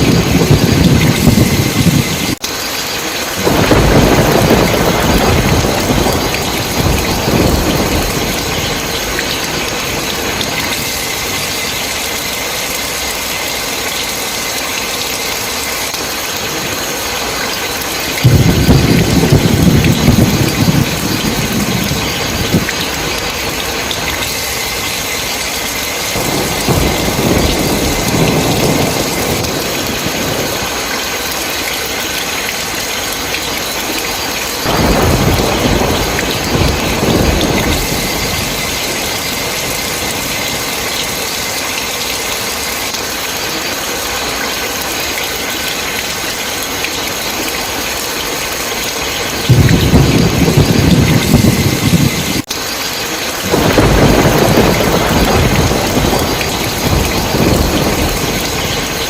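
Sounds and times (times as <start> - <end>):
steady heavy rain: 0.0 - 59.0
thunder rumbling: 0.0 - 59.0.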